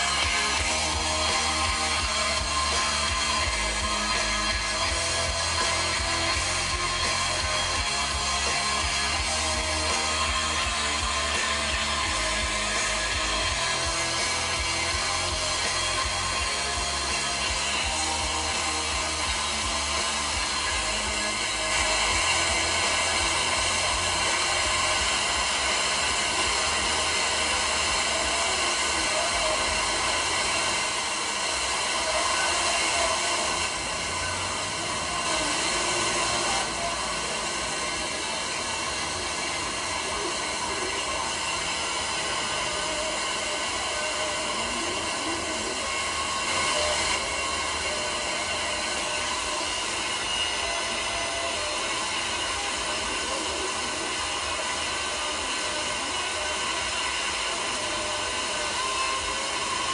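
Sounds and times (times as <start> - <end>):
faint wavering radio audio: 0.0 - 59.9
radio static hiss: 0.0 - 59.9.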